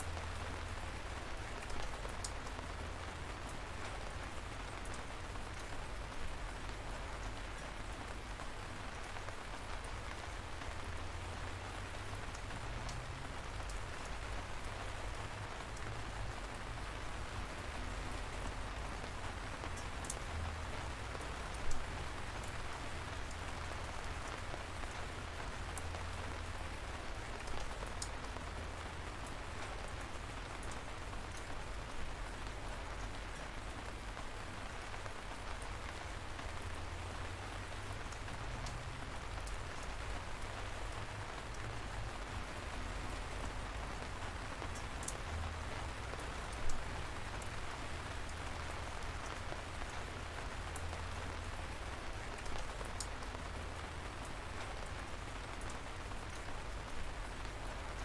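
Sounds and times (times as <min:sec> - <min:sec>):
light rain hissing: 0:00.0 - 0:58.0
raindrops pattering: 0:00.0 - 0:58.0.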